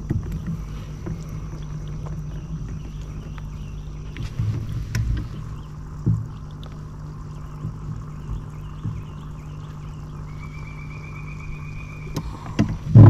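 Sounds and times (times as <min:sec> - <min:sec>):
gear knocking in boat: 0:00.0 - 0:10.4, 0:12.1 - 0:13.0
electric trolling motor humming: 0:00.0 - 0:13.0.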